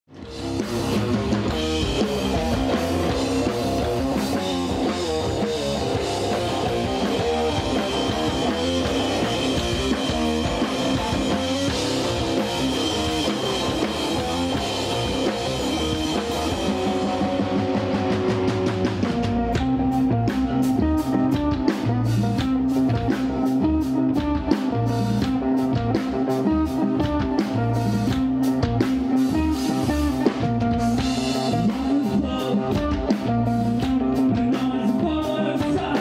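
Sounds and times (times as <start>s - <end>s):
bass guitar: 0.0s - 36.0s
drum kit: 0.0s - 36.0s
electric guitar: 0.1s - 36.0s.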